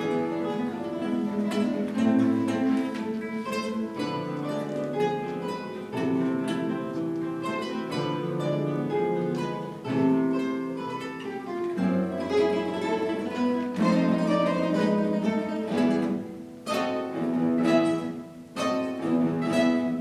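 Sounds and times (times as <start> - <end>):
guitar ensemble playing: 0.0 - 20.0.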